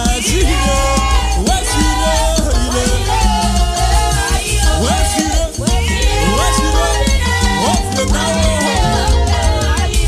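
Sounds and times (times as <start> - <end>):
gospel band playing: 0.0 - 10.0
heavy bass and percussion groove: 0.0 - 10.0
sliding melodic lead line: 0.0 - 10.0.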